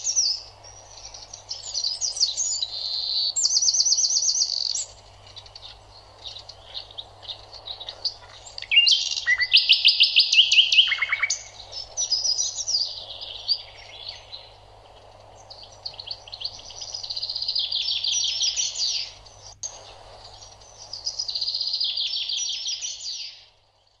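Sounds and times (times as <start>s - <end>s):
bird singing trilled phrases: 0.0s - 24.0s.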